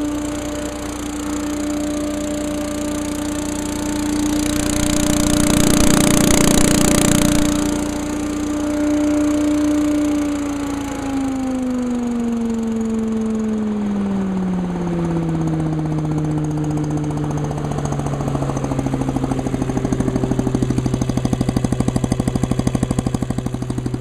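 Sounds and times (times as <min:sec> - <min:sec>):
leaf vacuum engine running: 0:00.0 - 0:24.0.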